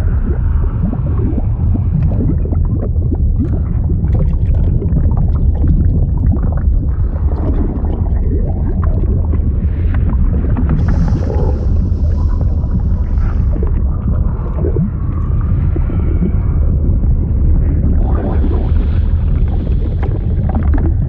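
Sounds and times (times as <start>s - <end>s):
liquid bubbling and gurgling: 0.0s - 21.0s.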